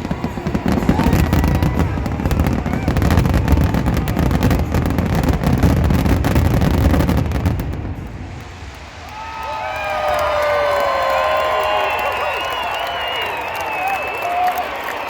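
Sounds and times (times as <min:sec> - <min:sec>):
fireworks bangs and crackles: 0:00.0 - 0:13.9.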